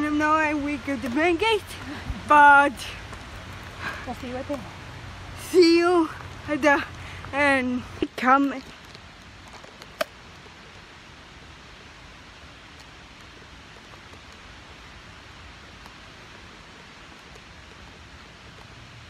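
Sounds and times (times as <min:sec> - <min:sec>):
woodland ambience hiss: 0:00.0 - 0:19.0.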